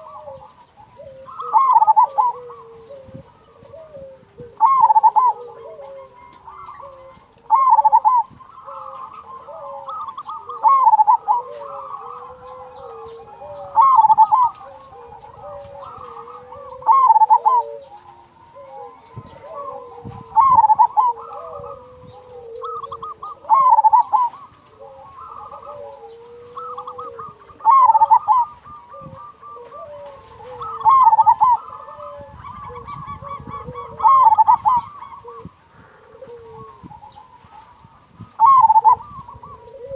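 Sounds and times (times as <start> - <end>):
dove rolling coo: 0.0 - 39.9
quieter overlapping dove coos: 0.0 - 39.9.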